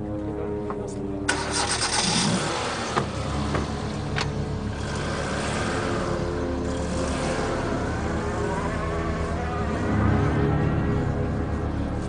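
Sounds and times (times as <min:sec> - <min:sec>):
car engine running: 0:01.3 - 0:12.0.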